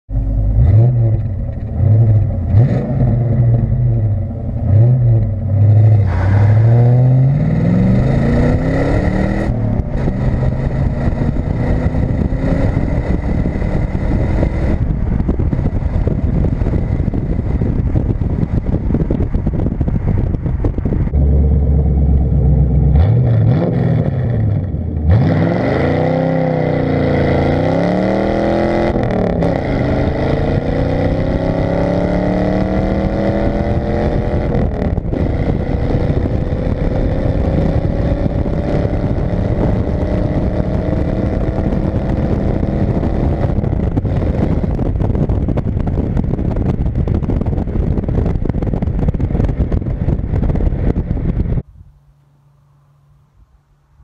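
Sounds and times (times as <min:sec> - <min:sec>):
car exhaust note: 0:00.1 - 0:54.0
road noise: 0:00.1 - 0:54.0.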